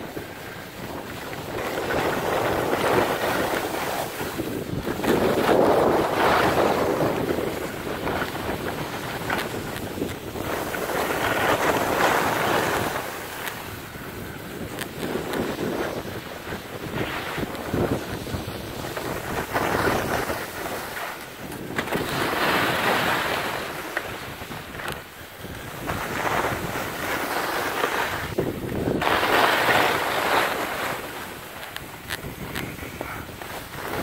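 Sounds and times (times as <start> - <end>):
skis scraping on snow: 0.0 - 34.0
wind rushing over microphone: 0.0 - 34.0.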